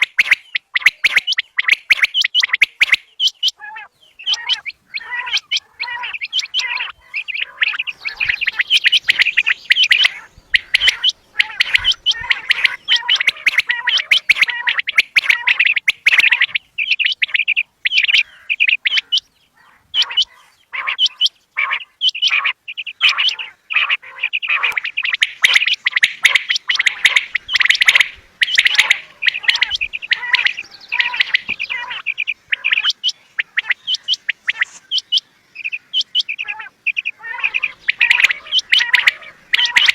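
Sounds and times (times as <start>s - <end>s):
quail chirping: 0.0s - 39.9s.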